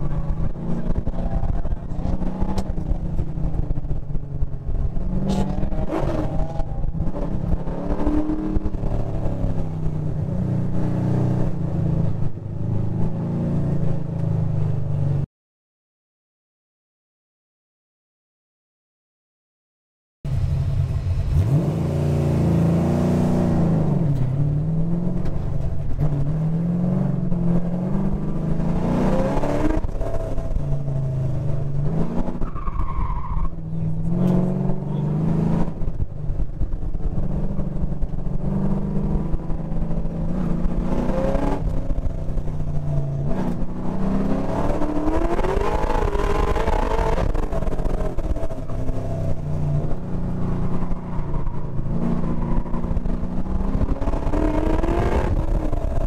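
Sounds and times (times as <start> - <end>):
car engine revving: 0.0 - 14.4, 20.3 - 56.0.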